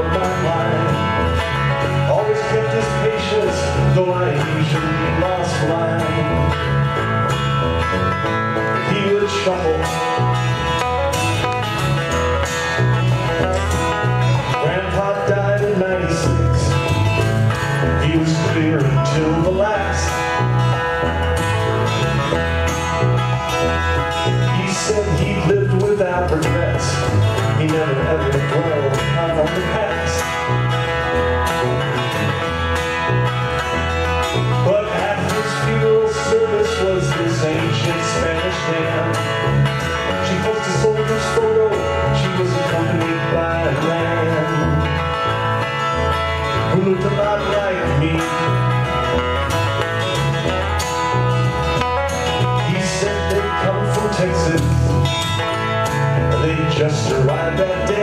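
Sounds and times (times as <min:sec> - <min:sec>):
acoustic guitars strumming: 0:00.0 - 0:58.0
banjo picking: 0:00.0 - 0:58.0.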